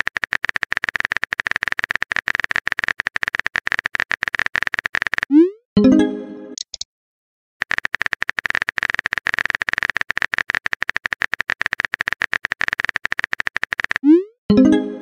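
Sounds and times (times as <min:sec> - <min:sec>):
phone keyboard typing clicks: 0:00.0 - 0:05.4, 0:06.6 - 0:06.8, 0:07.6 - 0:14.1.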